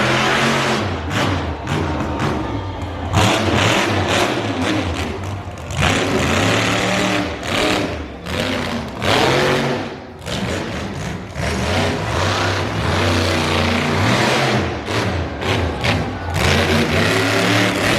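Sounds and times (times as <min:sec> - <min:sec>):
racing engines revving hard: 0:00.0 - 0:17.9.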